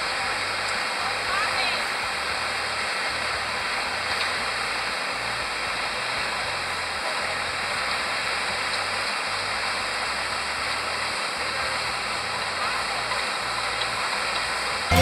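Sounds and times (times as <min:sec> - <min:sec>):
air-conditioning hiss: 0:00.0 - 0:15.0.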